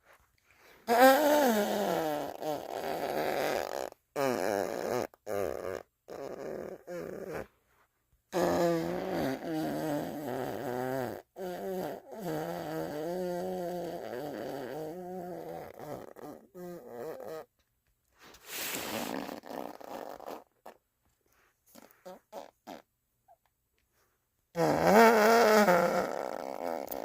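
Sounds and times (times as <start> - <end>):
fart sounds: 0.8 - 7.5, 8.3 - 17.6, 18.4 - 20.9, 21.7 - 23.4, 24.5 - 27.0.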